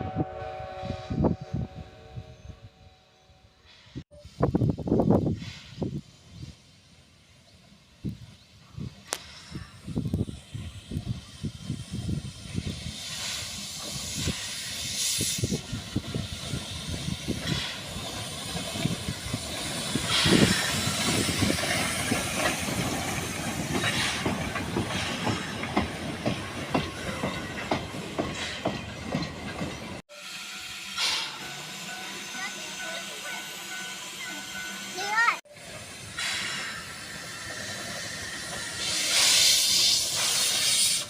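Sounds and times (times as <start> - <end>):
steam locomotive hissing: 3.6 - 41.0.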